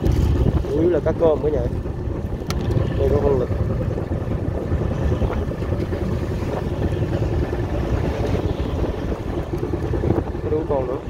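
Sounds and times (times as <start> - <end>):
boat engine running: 0.0 - 11.0
wind on microphone: 0.0 - 11.0.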